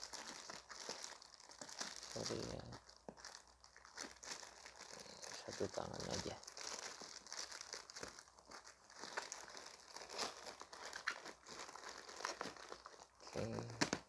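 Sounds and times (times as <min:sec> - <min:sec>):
plastic bag crinkling and tearing: 0:00.0 - 0:14.0.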